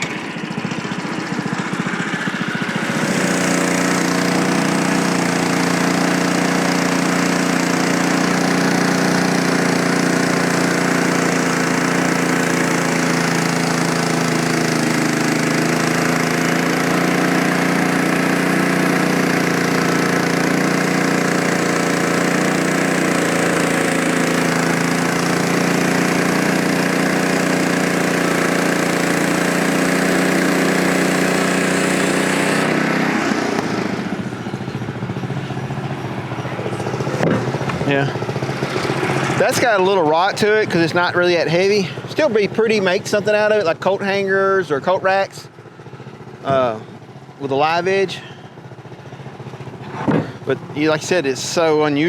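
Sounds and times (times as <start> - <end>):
bandsaw sawing log: 0.0 - 34.2, 35.7 - 45.2
sawmill engine running: 0.0 - 52.0.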